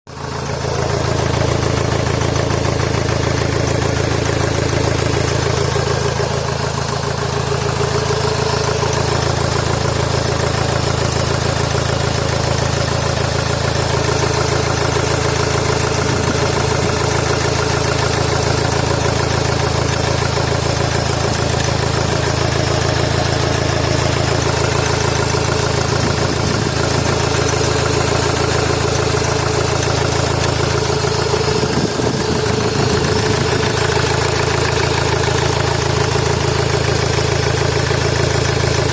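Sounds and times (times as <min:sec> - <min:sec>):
diesel engine idling roughly: 0:00.1 - 0:38.9.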